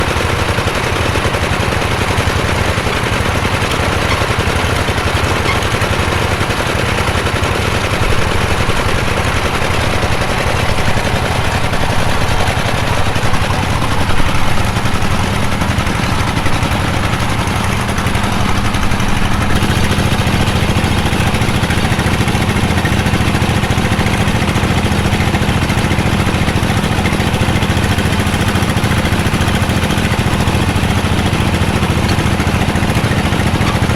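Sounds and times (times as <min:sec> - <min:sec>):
drilling machine engine pulsing: 0:00.0 - 0:33.9.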